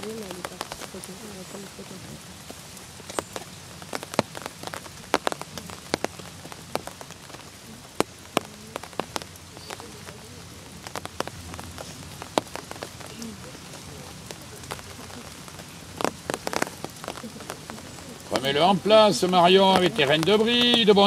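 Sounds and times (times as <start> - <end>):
rain falling: 0.0 - 21.0
sharp taps of raindrops: 0.0 - 21.0.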